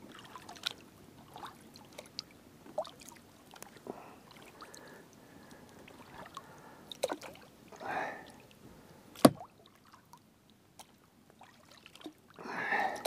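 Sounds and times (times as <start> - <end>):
kayak paddle dipping and swishing: 0.0 - 7.9, 9.1 - 13.0.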